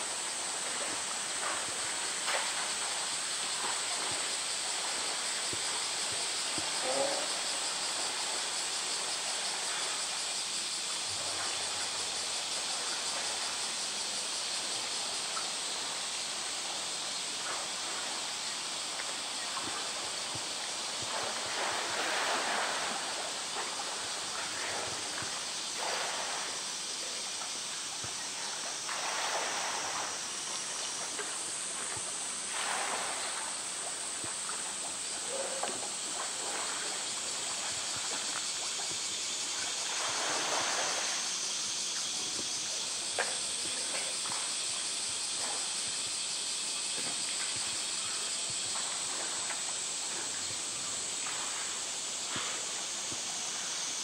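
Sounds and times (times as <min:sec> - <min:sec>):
steady background hiss: 0:00.0 - 0:54.0
water splashing and sloshing: 0:00.0 - 0:54.0.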